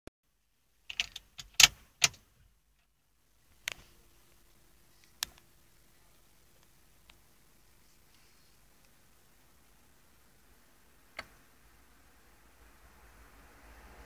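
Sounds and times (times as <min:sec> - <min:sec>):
faint steady hum: 0:00.3 - 0:14.0.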